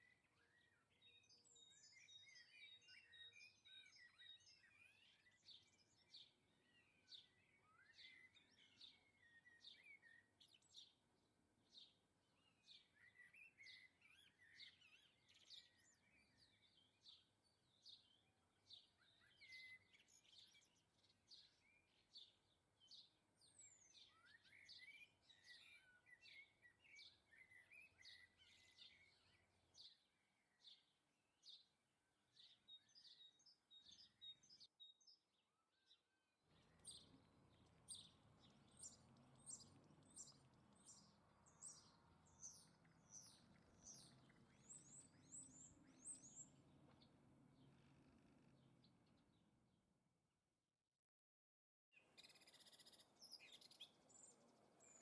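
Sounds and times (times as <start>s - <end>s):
small birds chirping: 0.0s - 49.8s, 51.9s - 55.0s.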